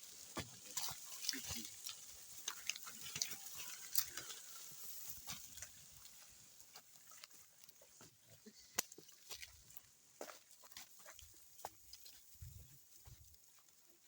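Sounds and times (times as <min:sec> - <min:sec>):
hooves and plough crunching soil: 0:00.0 - 0:14.0.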